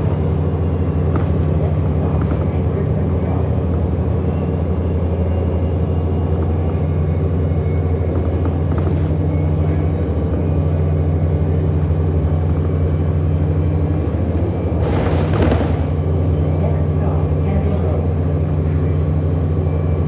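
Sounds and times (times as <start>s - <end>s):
bus drivetrain drone: 0.0s - 20.0s.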